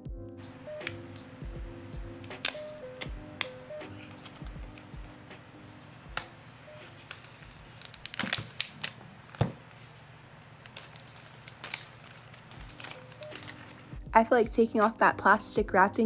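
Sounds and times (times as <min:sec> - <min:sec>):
plastic wrapping tearing: 0:00.5 - 0:14.0.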